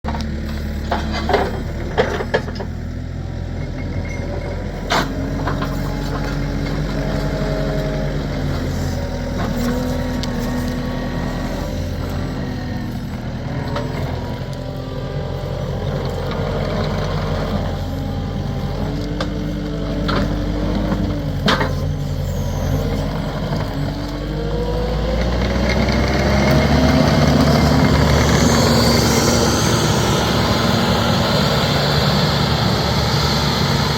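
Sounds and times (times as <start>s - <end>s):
heavy machinery running: 0.0s - 33.9s.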